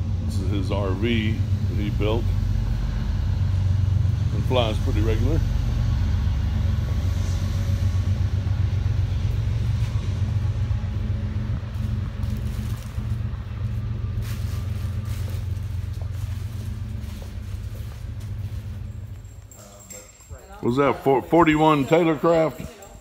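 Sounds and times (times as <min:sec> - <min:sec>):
low droning rumble: 0:00.0 - 0:23.0.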